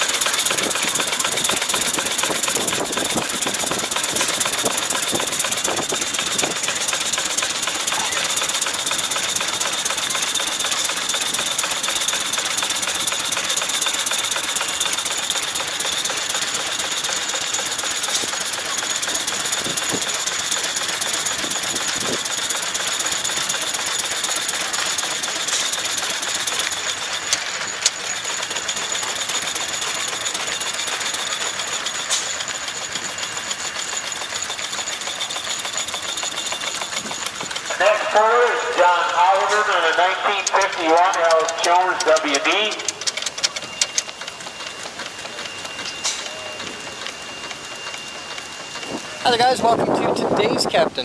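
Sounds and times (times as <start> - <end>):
steam hissing: 0.0 - 50.6
sharp ticks: 0.0 - 50.8.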